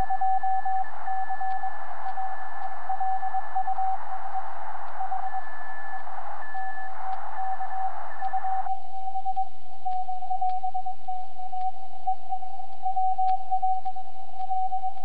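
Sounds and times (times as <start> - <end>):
higher-pitched morse signal: 0.0 - 13.6
morse code tone: 0.0 - 13.9
receiver hiss: 0.0 - 15.0.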